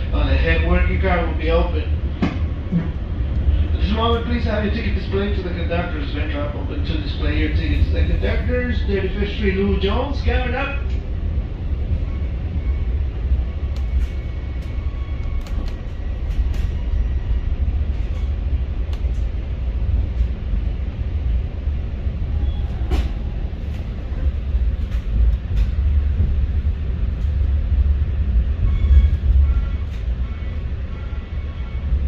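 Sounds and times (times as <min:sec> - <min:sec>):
train running gear rumble: 0:00.0 - 0:32.0.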